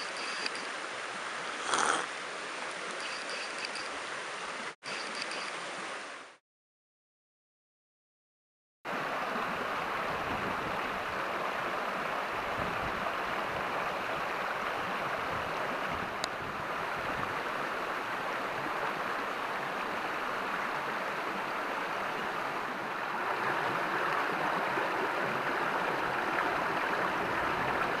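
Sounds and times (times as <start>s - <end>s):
stream water rushing: 0.0s - 6.4s, 8.9s - 28.0s.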